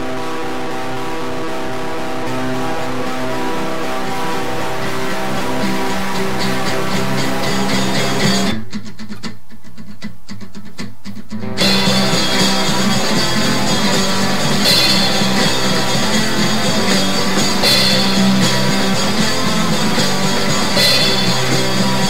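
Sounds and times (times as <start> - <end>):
guitar rock music: 0.0 - 22.0.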